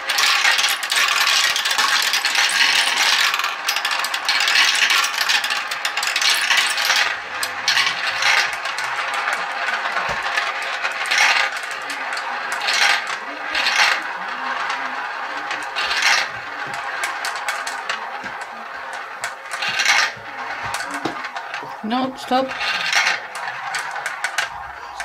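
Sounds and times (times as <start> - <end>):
glass marbles rolling and clicking: 0.0 - 25.0.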